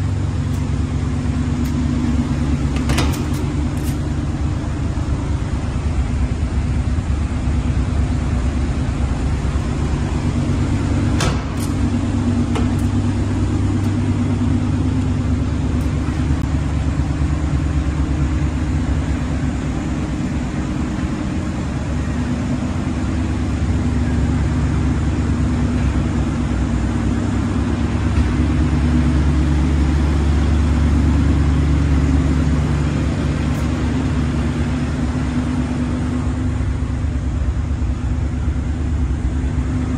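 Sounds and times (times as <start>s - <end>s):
pickup truck engine running: 0.0s - 39.9s.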